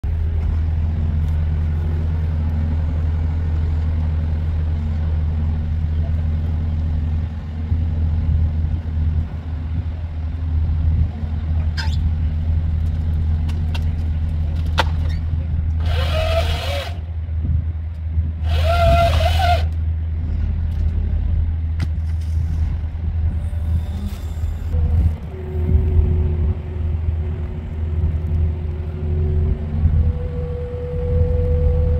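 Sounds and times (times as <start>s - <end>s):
diesel engine droning: 0.0s - 31.9s.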